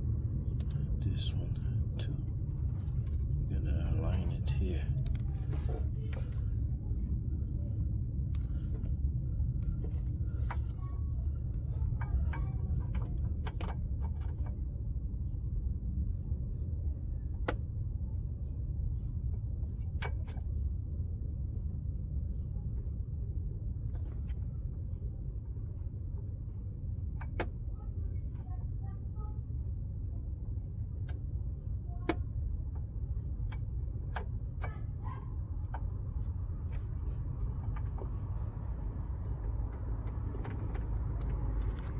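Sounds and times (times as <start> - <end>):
low workshop hum: 0.0 - 41.9.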